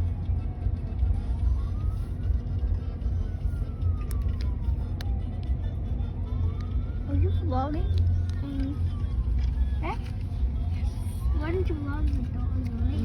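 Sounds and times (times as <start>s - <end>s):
car rumbling on road: 0.0s - 13.0s
siren wailing: 0.0s - 13.0s.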